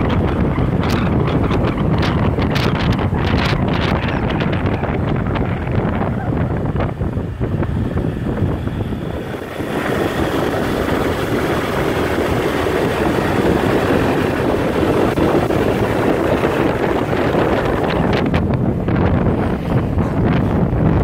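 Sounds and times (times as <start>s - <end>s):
motorbike engine running: 0.0s - 21.0s
wind buffeting microphone: 0.0s - 21.0s.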